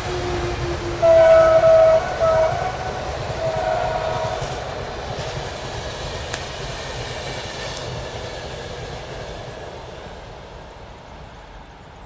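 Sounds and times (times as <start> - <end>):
train running over rails: 0.0 - 12.0.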